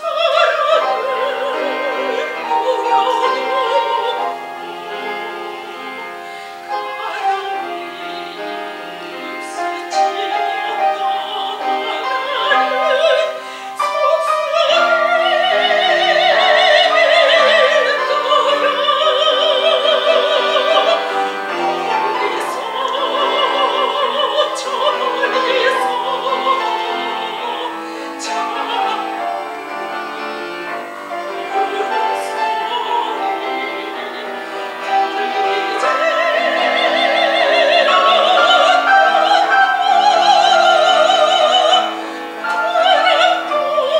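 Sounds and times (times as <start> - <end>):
piano accompaniment: 0.0 - 43.9
soprano operatic singing: 0.0 - 43.9.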